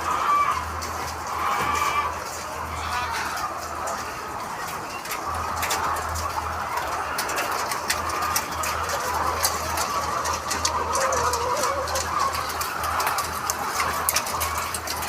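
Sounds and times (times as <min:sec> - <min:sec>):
poultry flock chattering: 0:00.0 - 0:15.0.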